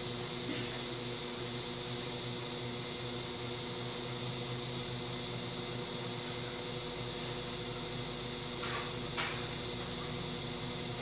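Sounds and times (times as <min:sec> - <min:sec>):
cooling fan noise: 0:00.0 - 0:11.0
microwave oven hum: 0:00.0 - 0:11.0.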